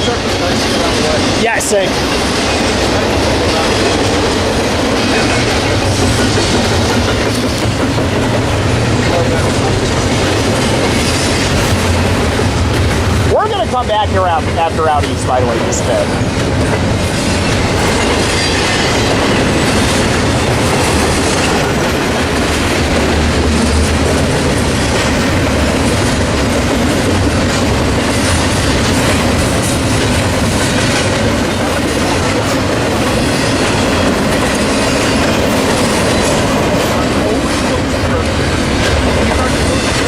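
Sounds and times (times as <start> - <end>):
train wheels clattering over rail joints: 0.0 - 13.4, 16.0 - 40.0.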